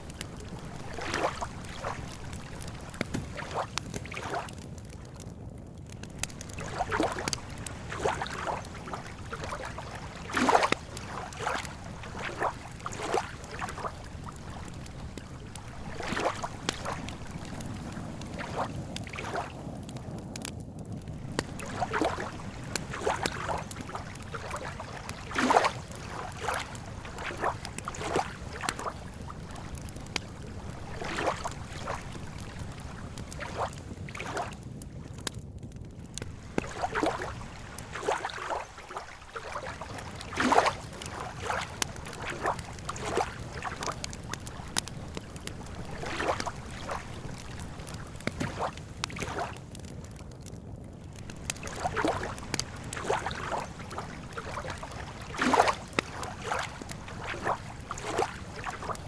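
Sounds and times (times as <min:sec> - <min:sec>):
water slaps: 0:00.0 - 0:04.6, 0:06.1 - 0:19.6, 0:21.2 - 0:34.6, 0:36.2 - 0:49.7, 0:51.1 - 0:59.0
lake water lapping on shore: 0:00.0 - 0:05.3, 0:06.0 - 0:35.3, 0:36.1 - 0:50.2, 0:51.0 - 0:59.0.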